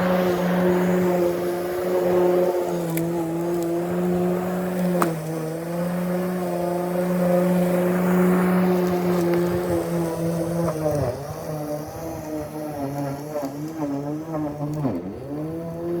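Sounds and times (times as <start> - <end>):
lawn mower running: 0.0 - 16.0.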